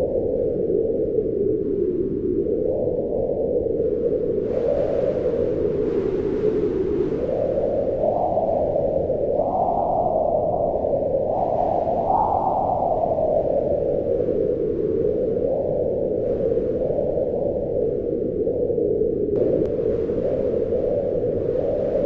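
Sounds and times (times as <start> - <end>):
strong wind howling: 0.0 - 22.0.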